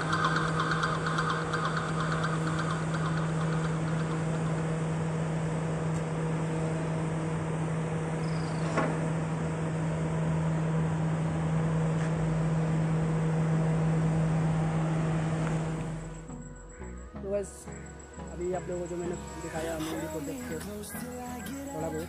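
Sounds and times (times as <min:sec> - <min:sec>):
low-pitched hum: 0:00.0 - 0:22.0.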